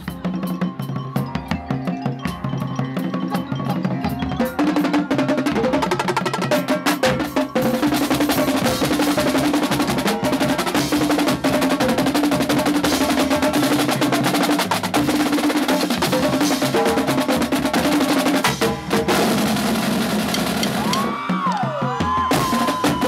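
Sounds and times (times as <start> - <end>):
deeper drums: 0.0 - 23.0
snare drums: 0.0 - 23.0.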